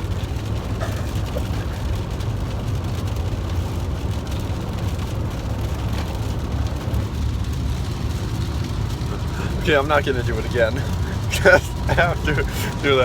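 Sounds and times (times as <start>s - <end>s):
car driving rumble: 0.0s - 13.0s
faint rain patter: 0.0s - 13.0s.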